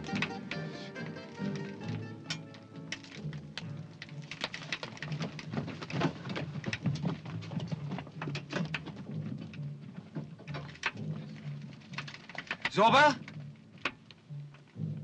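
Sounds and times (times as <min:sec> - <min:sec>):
earth and stones falling: 0:01.4 - 0:14.9.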